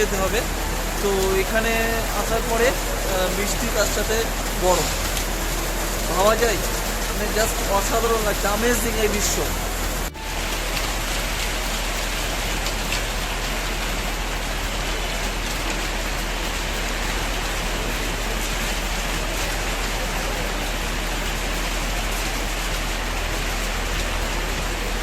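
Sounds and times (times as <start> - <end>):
rain on hard surfaces: 0.0 - 25.0.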